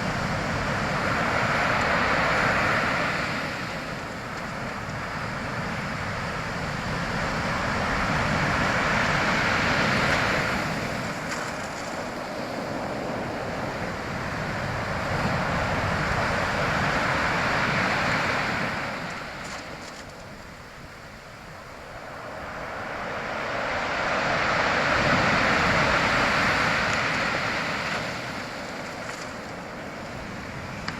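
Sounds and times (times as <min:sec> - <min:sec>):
sea waves breaking on shore: 0:00.0 - 0:30.9.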